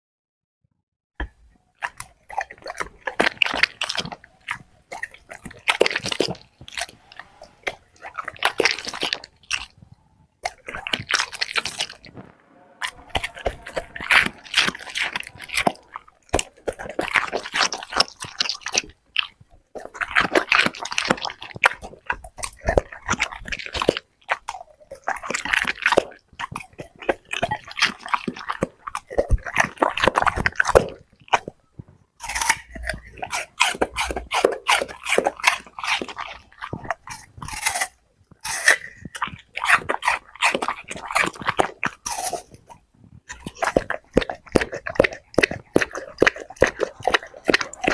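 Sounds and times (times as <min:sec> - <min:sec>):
dog crunching food: 0:01.7 - 0:12.2, 0:12.8 - 0:47.9.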